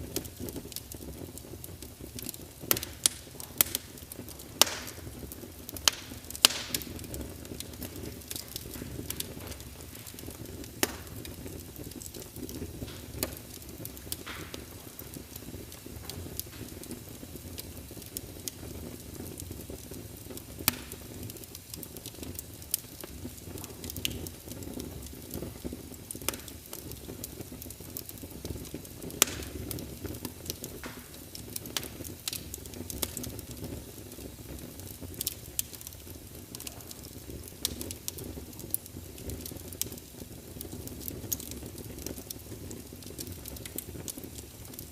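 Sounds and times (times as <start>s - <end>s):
burning logs crackling and popping: 0.0s - 44.9s
low rumble of flames: 0.0s - 44.9s.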